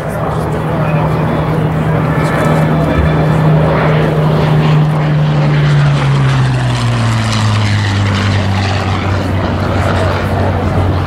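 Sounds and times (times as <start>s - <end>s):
propeller plane engine flyby: 0.0s - 11.0s.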